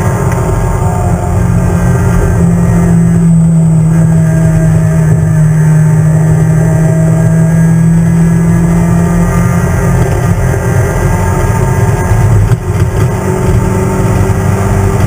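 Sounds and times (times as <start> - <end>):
race car engine revving high: 0.0 - 15.0.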